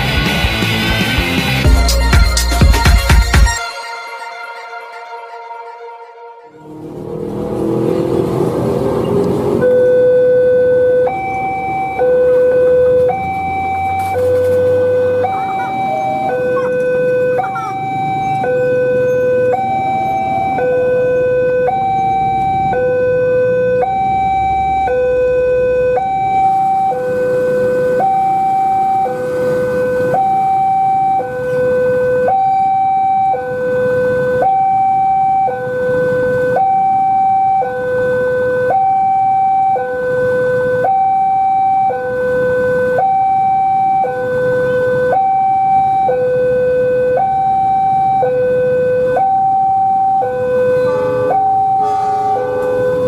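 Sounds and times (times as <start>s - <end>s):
level crossing two-tone alarm: 1.7s - 6.8s, 9.6s - 53.0s.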